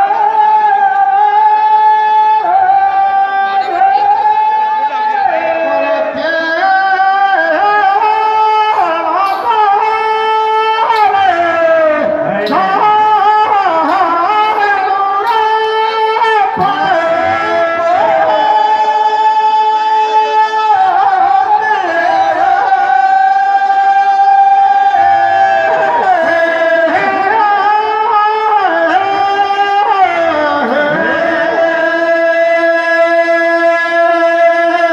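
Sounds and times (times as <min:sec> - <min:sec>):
men singing folk song: 0:05.1 - 0:34.9.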